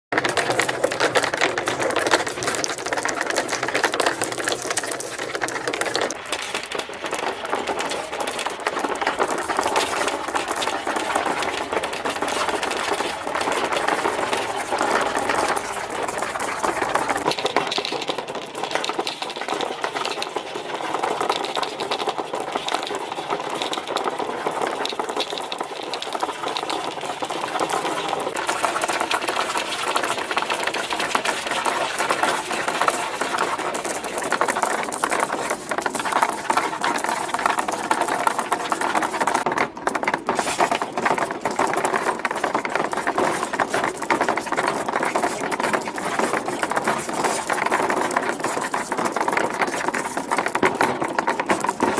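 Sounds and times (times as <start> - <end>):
marbles rattling down plastic ramps: 0.1 - 51.9.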